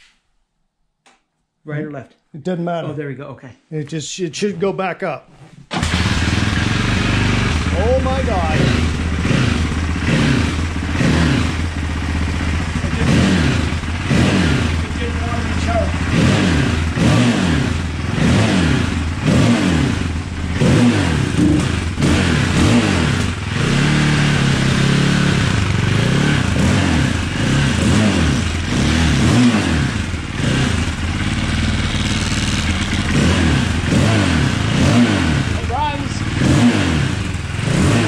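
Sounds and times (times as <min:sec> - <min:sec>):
motorcycle engine revving: 0:05.7 - 0:38.0.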